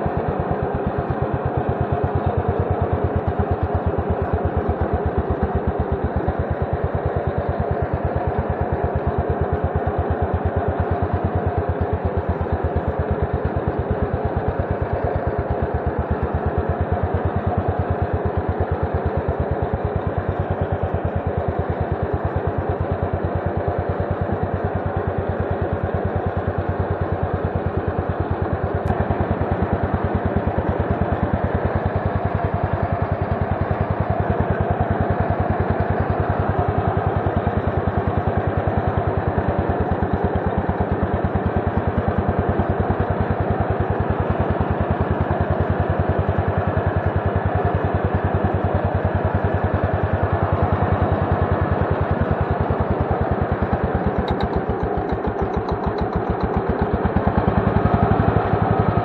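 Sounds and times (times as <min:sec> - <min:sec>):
mower engine running: 0:00.1 - 0:59.0.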